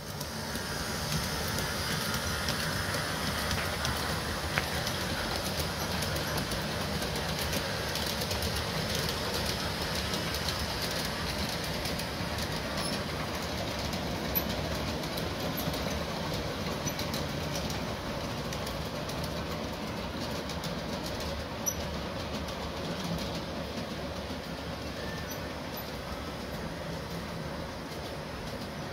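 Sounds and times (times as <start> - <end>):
model train wheels rumbling: 0.0 - 28.9.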